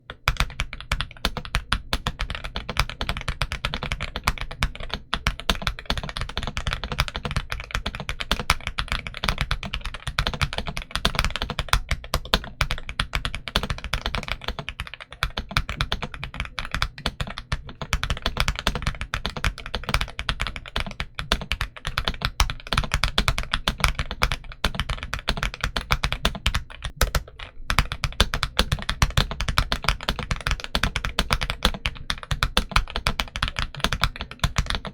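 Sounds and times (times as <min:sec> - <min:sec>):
mechanical keyboard typing: 0:00.0 - 0:34.9.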